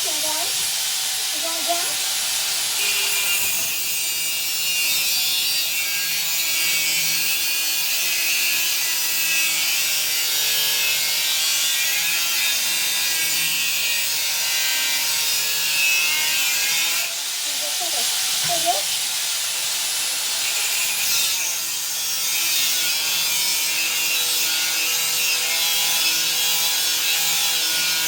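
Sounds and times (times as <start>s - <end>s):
angle grinder cutting steel: 0.0s - 28.0s.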